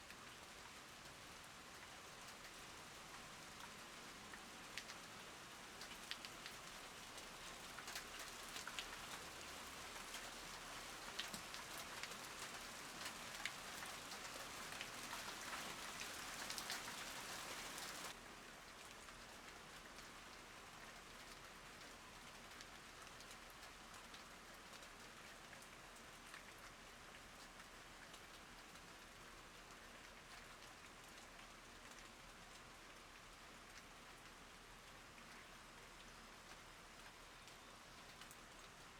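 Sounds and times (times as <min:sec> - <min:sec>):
raindrops ticking close by: 0:00.0 - 0:38.9
rain falling: 0:00.1 - 0:38.9.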